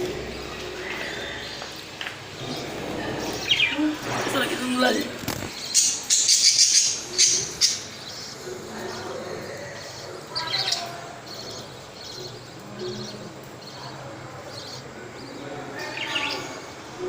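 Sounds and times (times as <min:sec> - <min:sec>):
budgerigars chirping: 0:00.0 - 0:14.9.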